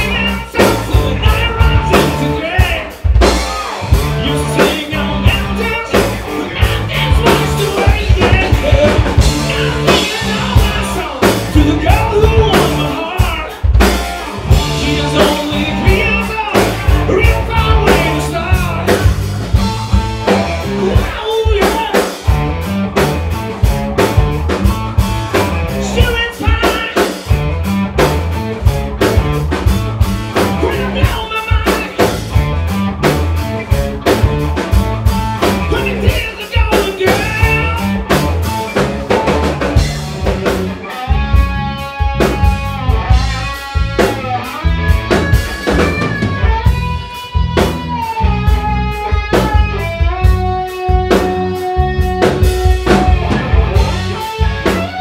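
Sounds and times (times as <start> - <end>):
electric guitar lead: 0.0 - 55.0
rock band playing: 0.0 - 55.0.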